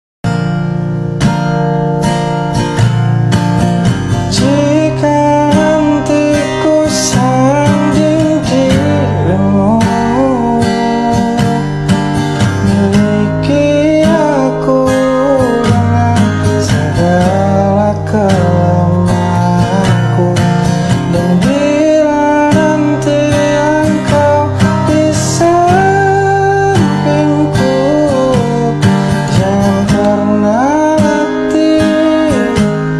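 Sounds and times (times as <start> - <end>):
acoustic guitar strumming chords: 0.2 - 32.9.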